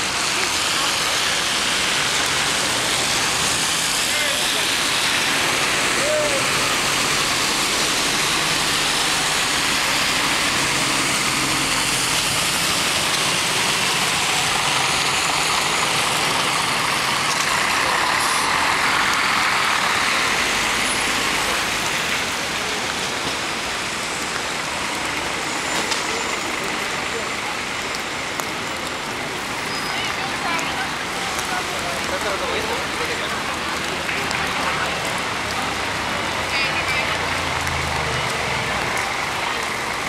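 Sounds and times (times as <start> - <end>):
bus engine passing: 0.0 - 40.0
rain: 0.0 - 40.0
wet tyres hissing: 0.0 - 40.0.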